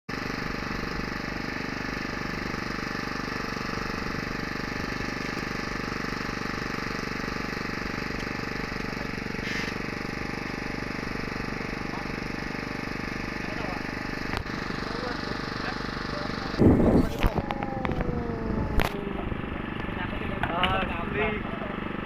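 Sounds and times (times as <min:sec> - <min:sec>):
small boat engine chugging: 0:00.1 - 0:22.0.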